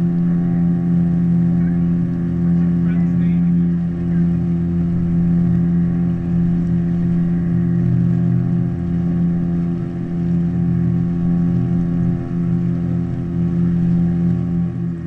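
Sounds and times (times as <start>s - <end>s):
boat motor droning: 0.0s - 15.0s.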